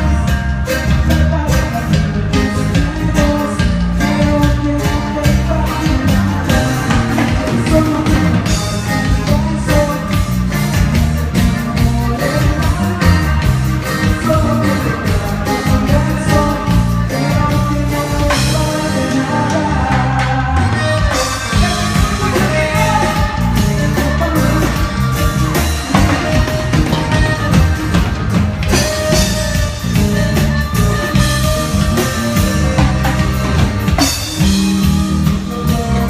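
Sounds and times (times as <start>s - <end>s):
band playing music: 0.0s - 36.0s
heavy bass line: 0.0s - 36.0s
person singing: 0.0s - 36.0s
steady drum beat: 0.0s - 36.0s.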